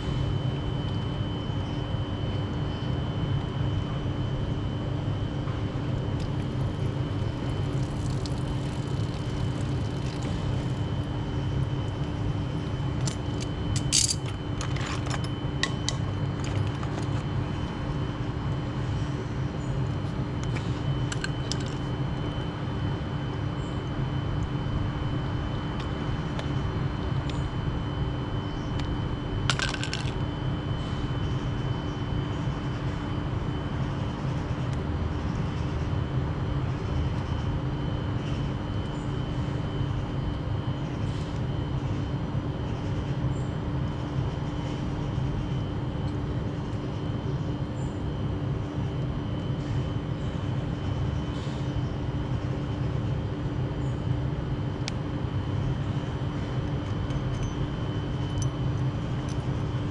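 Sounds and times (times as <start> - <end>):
mechanical hum with tone: 0.0 - 59.9.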